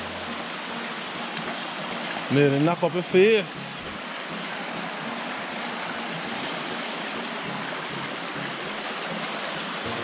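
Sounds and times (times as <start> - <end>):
stream rushing over stones: 0.0 - 10.0.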